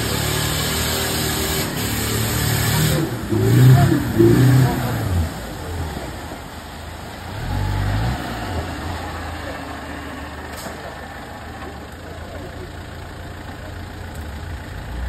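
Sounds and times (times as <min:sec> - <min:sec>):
off-road vehicle engine revving: 0:00.0 - 0:13.1.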